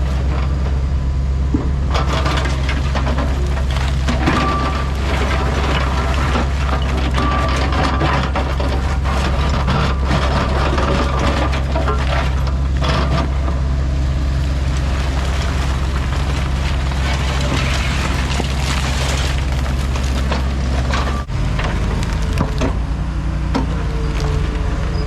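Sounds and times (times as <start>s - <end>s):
diesel engine under load: 0.0s - 25.0s
concrete debris crunching: 1.5s - 25.0s.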